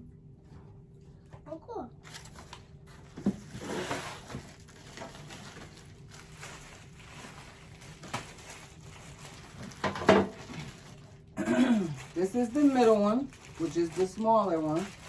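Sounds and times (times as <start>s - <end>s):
packaging rustling: 2.0s - 15.0s.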